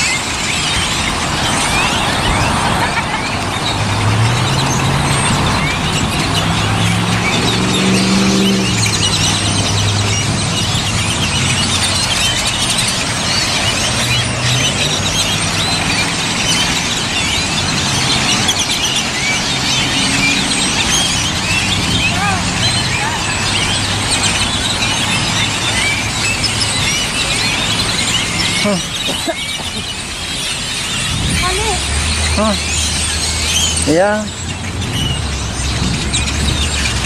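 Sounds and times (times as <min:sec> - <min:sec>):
flock of birds chirping: 0:00.0 - 0:37.0
vehicle engine hum: 0:00.0 - 0:37.0.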